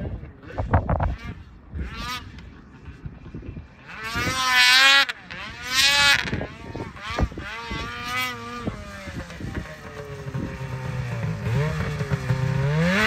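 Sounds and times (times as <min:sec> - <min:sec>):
snowmobile engine revving: 0:00.4 - 0:03.0, 0:03.6 - 0:13.0.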